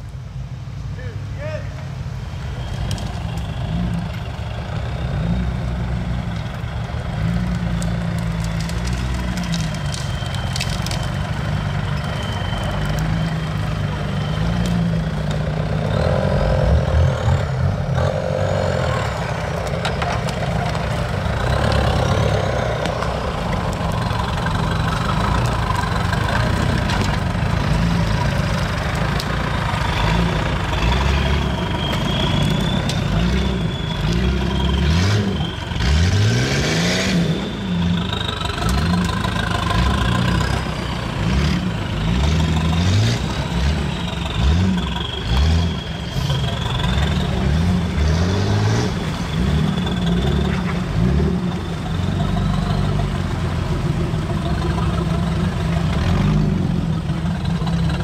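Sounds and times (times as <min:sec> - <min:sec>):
vehicle engine revving: 0:02.4 - 0:58.0.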